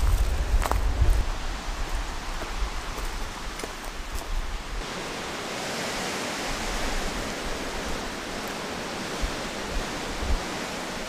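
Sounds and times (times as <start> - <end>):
wind buffeting microphone: 0.0 - 11.0
wind rushing through trees: 0.0 - 11.0.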